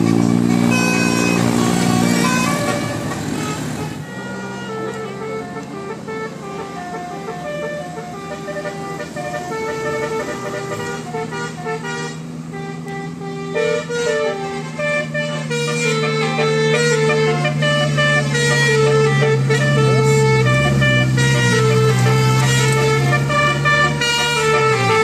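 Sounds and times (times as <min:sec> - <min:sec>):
multi-tone bus horns playing tune: 0:00.0 - 0:25.0.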